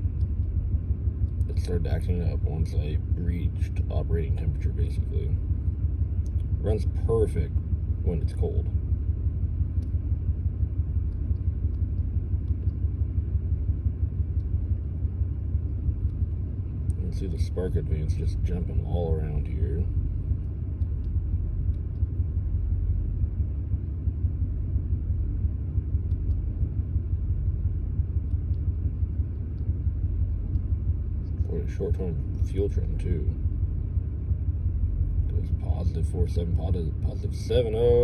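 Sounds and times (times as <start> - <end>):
car engine idling roughly: 0.0 - 38.0.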